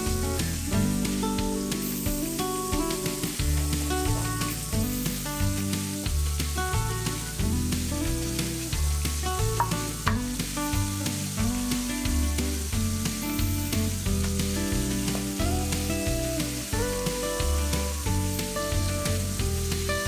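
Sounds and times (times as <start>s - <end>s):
background music with bass: 0.0s - 20.0s
fish sizzling in oil: 0.0s - 20.0s.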